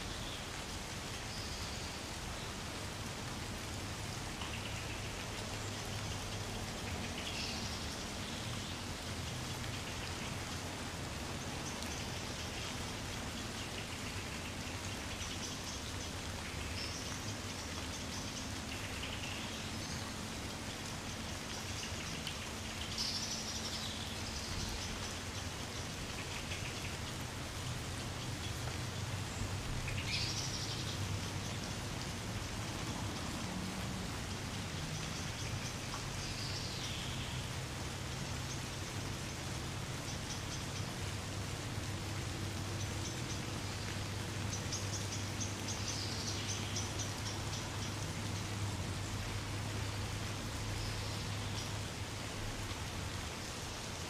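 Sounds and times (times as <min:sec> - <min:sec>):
rain pattering on trees: 0:00.0 - 0:54.0.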